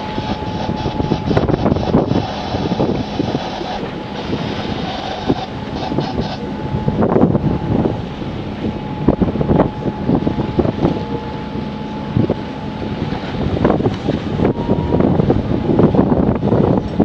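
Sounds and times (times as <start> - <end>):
sea water splashing on hull: 0.0 - 17.0
wind buffeting microphone: 0.0 - 17.0.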